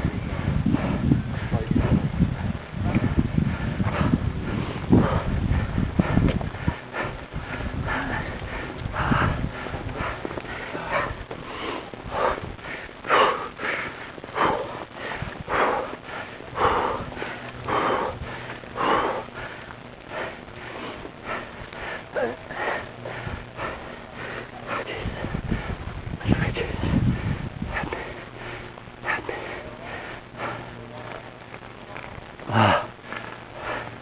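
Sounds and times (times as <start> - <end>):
person breathing hard: 0.0 - 34.0.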